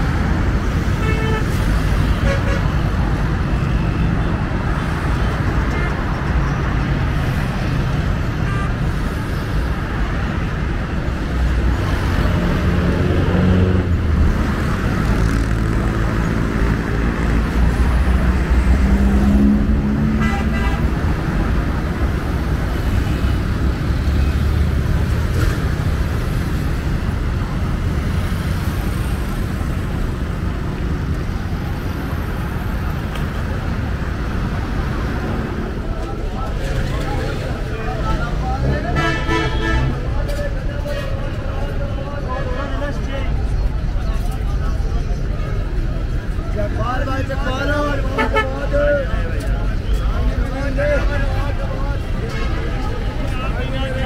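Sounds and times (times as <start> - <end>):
car and bus engines rumbling: 0.0 - 54.0.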